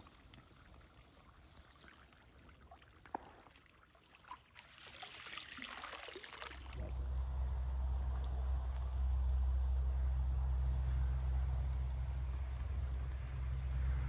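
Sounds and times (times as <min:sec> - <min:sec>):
water trickling and splashing: 0:00.0 - 0:10.4, 0:11.3 - 0:14.0.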